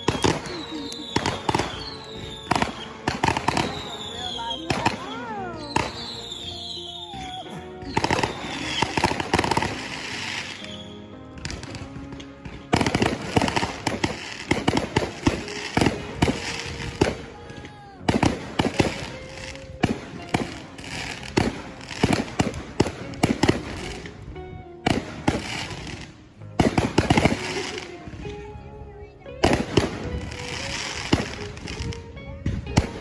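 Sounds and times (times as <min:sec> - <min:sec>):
fireworks bangs and crackling: 0:00.0 - 0:28.5, 0:29.4 - 0:33.0.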